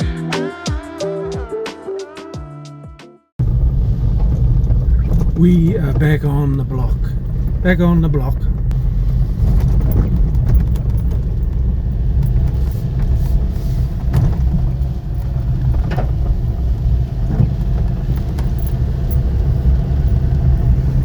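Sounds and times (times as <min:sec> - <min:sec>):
car driving on wet road: 0:03.4 - 0:21.0.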